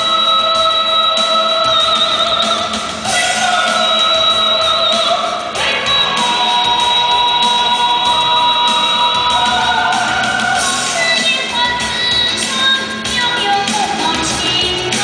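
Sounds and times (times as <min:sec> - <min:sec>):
backing music: 0:00.0 - 0:15.0
woman singing into a microphone: 0:00.0 - 0:15.0.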